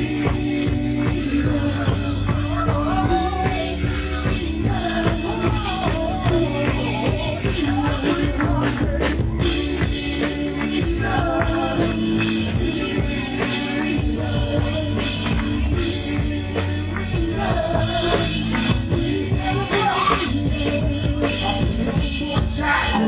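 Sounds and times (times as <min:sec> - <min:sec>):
drum kit: 0:00.0 - 0:23.0
live band music: 0:00.0 - 0:23.0
voices singing on microphones: 0:00.0 - 0:23.0.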